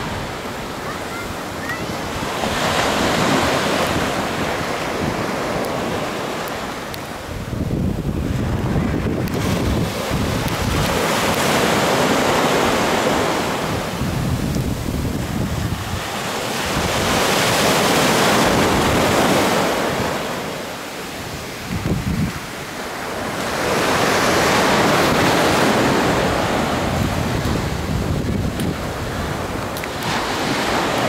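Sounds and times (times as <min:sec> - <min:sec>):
wind buffeting microphone: 0:00.0 - 0:20.6, 0:21.2 - 0:31.0
surf washing up a beach: 0:00.0 - 0:31.0.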